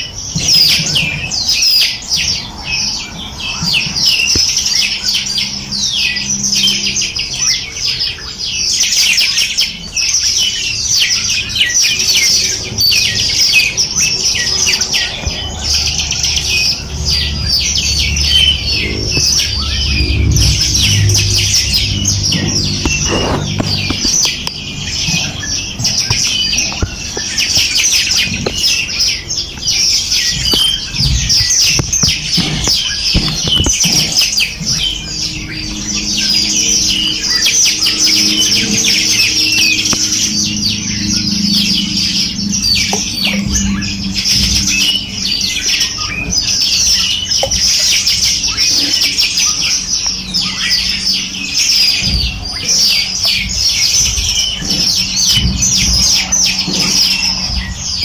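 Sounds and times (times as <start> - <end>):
low steady hum: 0.0 - 58.0
small birds chirping: 0.0 - 58.0.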